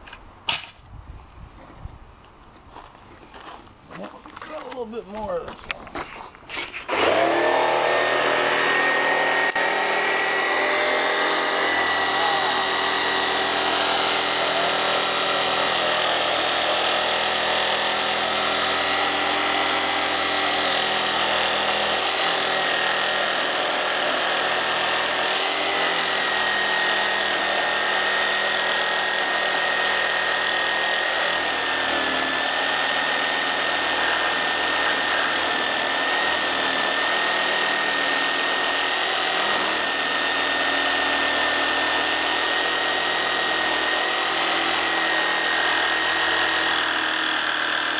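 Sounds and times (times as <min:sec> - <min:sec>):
jigsaw cutting wood: 0:06.6 - 0:47.9.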